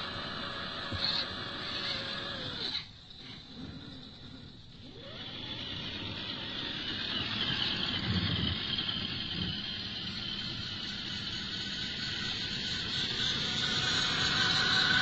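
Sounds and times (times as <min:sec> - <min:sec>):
toy car electric motor whining: 0:00.0 - 0:15.0
tyres churning through snow: 0:00.0 - 0:15.0.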